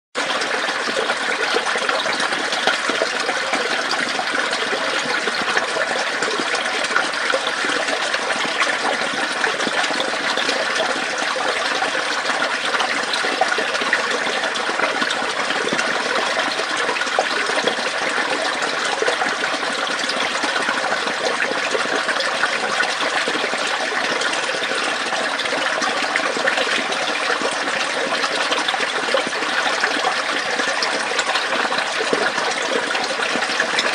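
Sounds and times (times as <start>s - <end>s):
water gurgling in a pipe: 0.2s - 33.9s.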